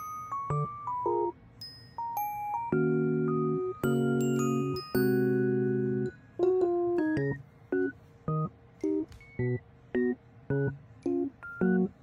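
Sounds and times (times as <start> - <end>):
bell-like melody notes: 0.0 - 12.0
chiming keyboard chord: 0.0 - 12.0.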